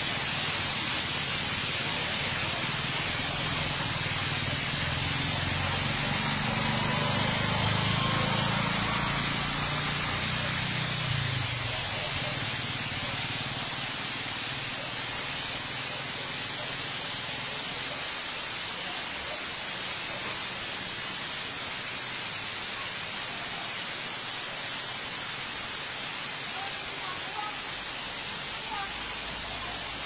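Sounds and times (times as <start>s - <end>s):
heavy rain hissing: 0.0s - 30.0s.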